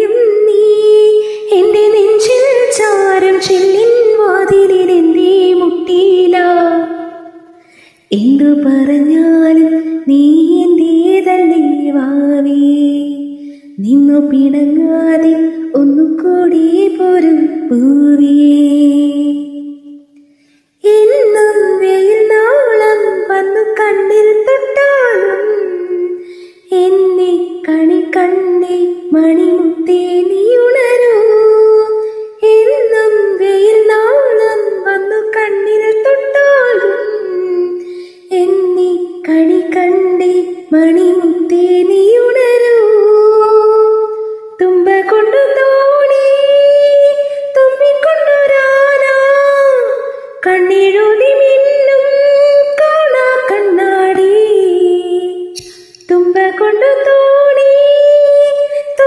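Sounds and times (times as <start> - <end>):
woman singing slow song: 0.0 - 20.0, 20.8 - 59.0.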